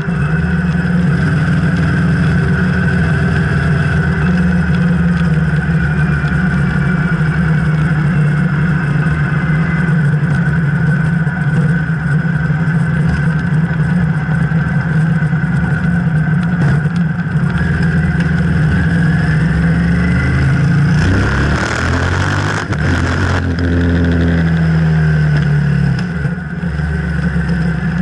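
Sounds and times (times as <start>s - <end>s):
motorcycle engine running: 0.0s - 28.0s
rush of noise: 0.0s - 28.0s.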